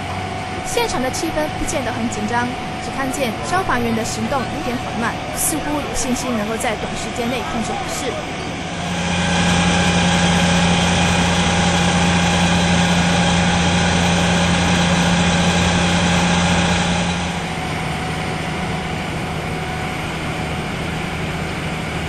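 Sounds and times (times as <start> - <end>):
fire engine idling: 0.0 - 22.0.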